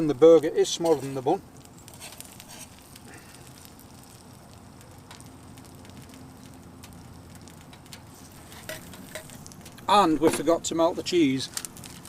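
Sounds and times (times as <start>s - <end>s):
fire crackles and clicks: 0.0s - 12.0s
wood fire hissing: 0.0s - 12.0s.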